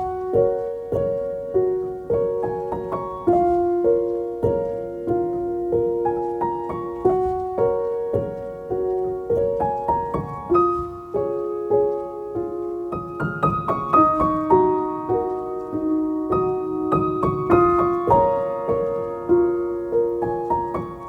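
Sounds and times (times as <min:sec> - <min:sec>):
gentle piano piece: 0:00.0 - 0:21.0.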